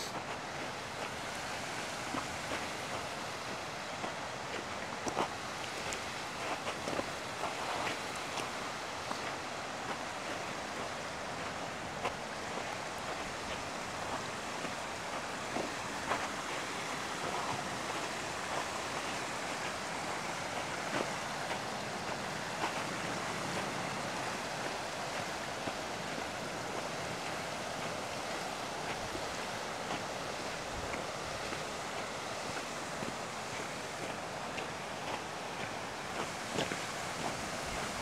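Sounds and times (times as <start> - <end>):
river flowing: 0.0 - 38.0.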